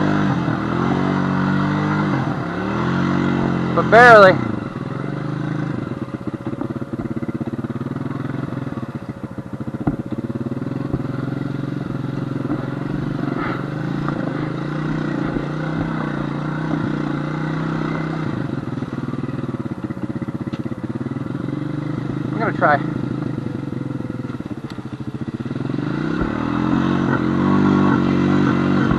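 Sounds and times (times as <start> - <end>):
quad engine running under load: 0.0 - 28.9.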